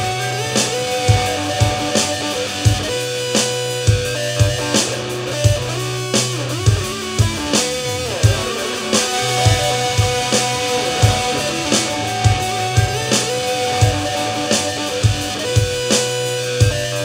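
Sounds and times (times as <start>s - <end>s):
guitar with sliding notes: 0.0s - 17.0s
steady drum beat: 0.0s - 17.0s
sustained bass line: 0.0s - 17.0s.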